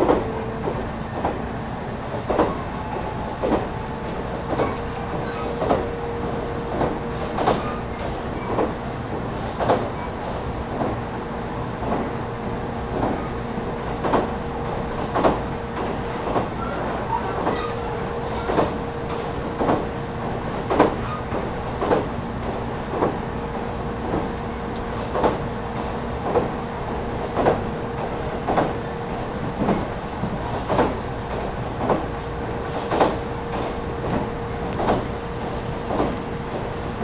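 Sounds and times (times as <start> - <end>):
electric train interior hum: 0.0 - 37.0.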